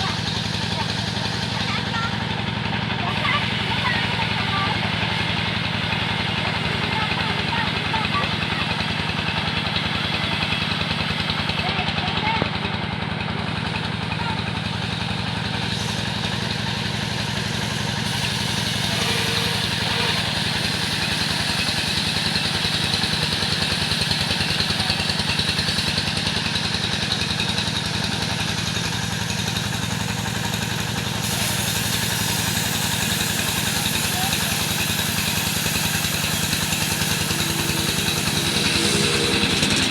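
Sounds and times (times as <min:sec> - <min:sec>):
sawing machine engine running: 0:00.0 - 0:39.9.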